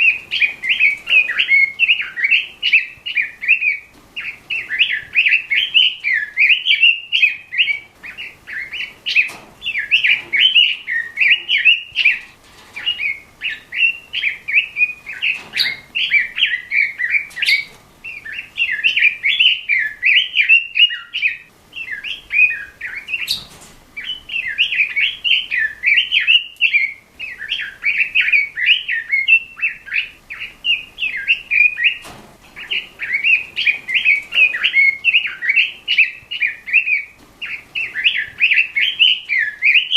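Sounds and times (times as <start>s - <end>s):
bird singing rapid warbles: 0.0s - 39.9s.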